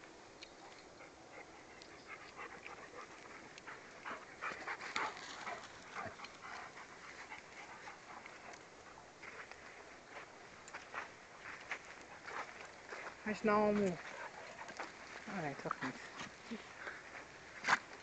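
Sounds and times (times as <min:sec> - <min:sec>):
dogs panting: 0:00.5 - 0:18.0
dogs scuffling and rustling: 0:00.6 - 0:18.0.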